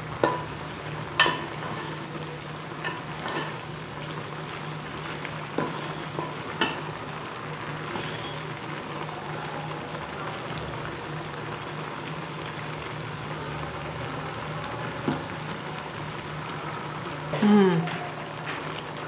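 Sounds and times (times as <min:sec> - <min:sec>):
water boiling in pot: 0:00.0 - 0:19.0.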